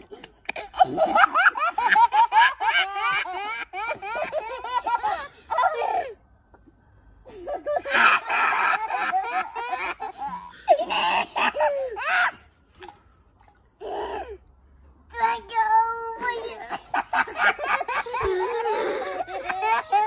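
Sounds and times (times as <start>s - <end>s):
children crying and laughing: 0.0s - 6.3s, 7.2s - 12.6s, 15.2s - 20.0s.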